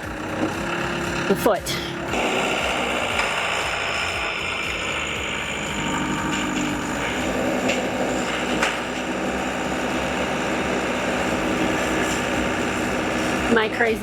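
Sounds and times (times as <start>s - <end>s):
backhoe engine running: 0.0s - 14.0s.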